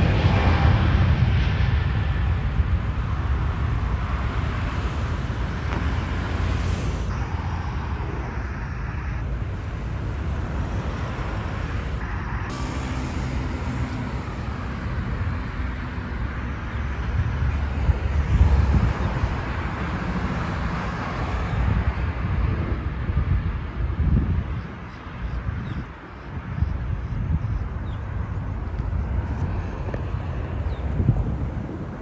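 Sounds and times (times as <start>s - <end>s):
jet engines low rumble: 0.0s - 32.0s.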